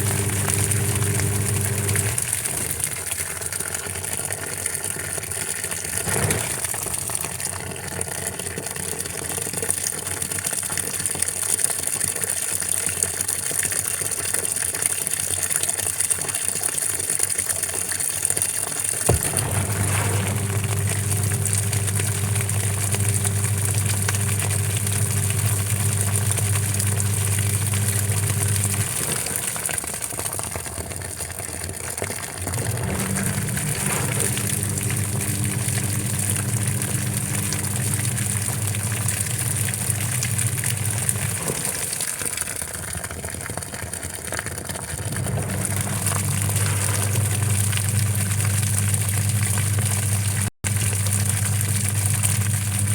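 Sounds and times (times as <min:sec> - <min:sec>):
pump motor humming: 0:00.0 - 0:15.0, 0:18.9 - 0:52.9
washing machine water noise: 0:00.0 - 0:52.9.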